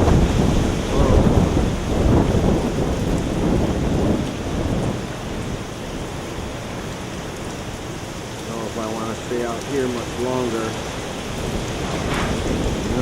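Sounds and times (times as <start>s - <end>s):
heavy rain: 0.0s - 13.0s
wind gusting against microphone: 0.0s - 13.0s.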